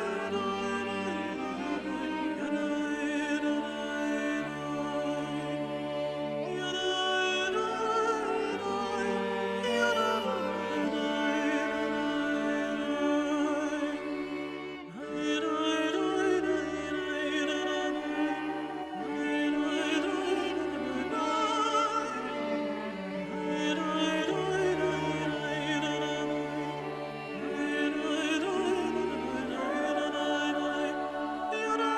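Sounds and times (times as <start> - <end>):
operatic singing with vibrato: 0.0 - 31.9
orchestral strings: 0.0 - 31.9.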